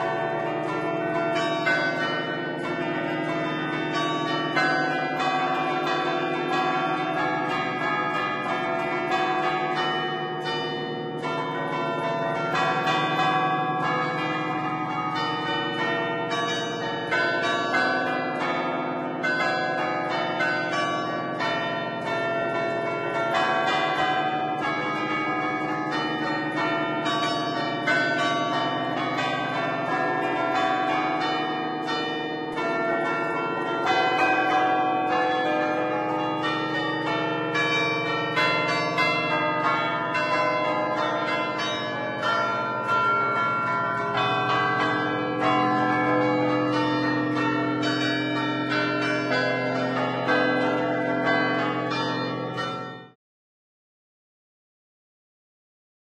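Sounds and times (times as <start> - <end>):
church bells pealing a melody: 0.0 - 53.2.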